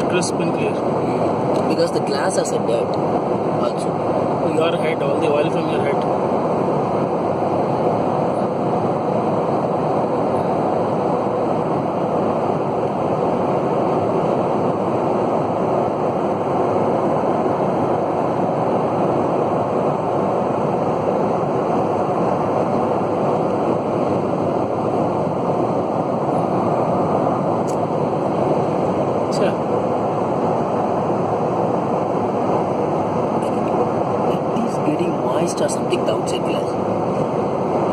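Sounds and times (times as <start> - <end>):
airliner cabin engine rush: 0.0 - 37.9.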